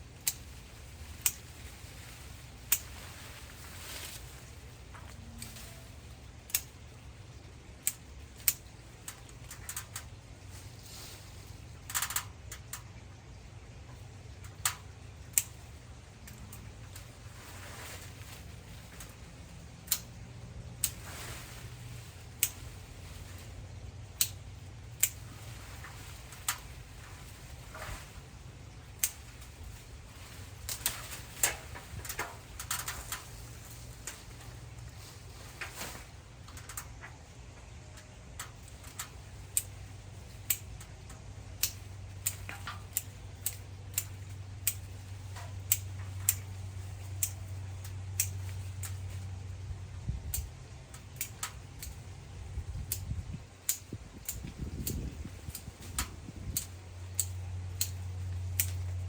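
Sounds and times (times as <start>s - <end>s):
low steady hum: 0.0s - 59.0s
pruning shears snipping: 0.2s - 12.9s, 14.4s - 17.4s, 18.0s - 49.3s, 50.2s - 52.2s, 52.8s - 59.0s.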